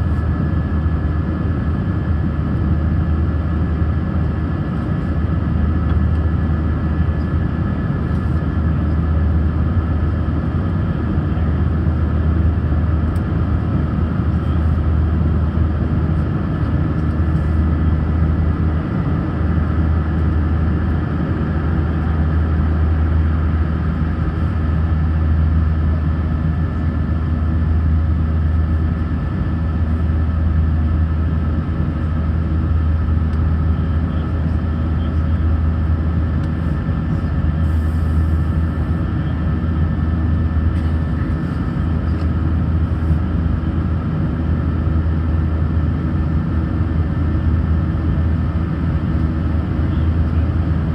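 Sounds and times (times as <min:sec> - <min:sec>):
jet engine cabin drone: 0:00.0 - 0:50.9.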